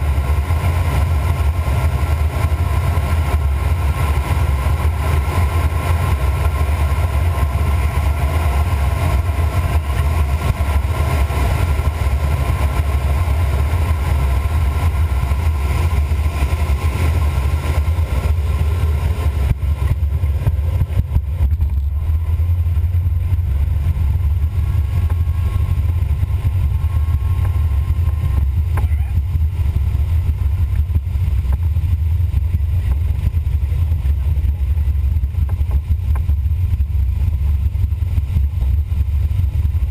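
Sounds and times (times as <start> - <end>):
cockpit airflow rumble and hiss: 0.0 - 39.9.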